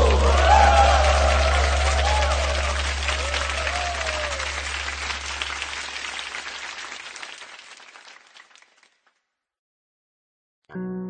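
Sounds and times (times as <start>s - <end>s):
audience applause: 0.0s - 9.1s.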